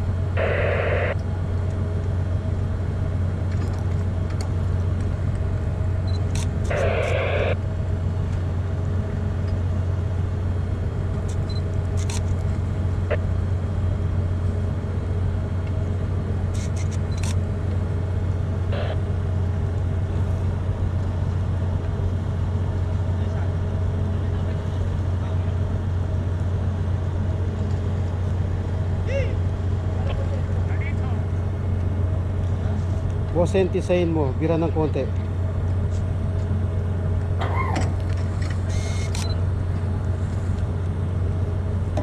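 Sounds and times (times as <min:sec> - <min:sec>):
ship machinery hum: 0:00.0 - 0:42.0.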